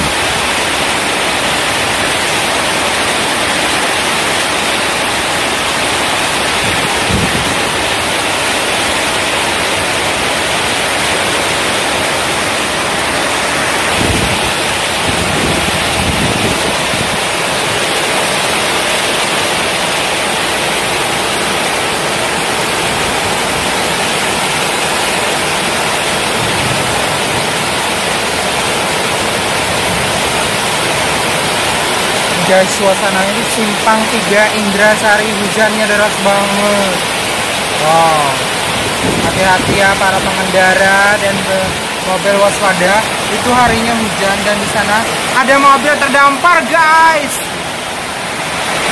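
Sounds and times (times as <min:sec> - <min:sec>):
heavy rain rushing: 0:00.0 - 0:48.9.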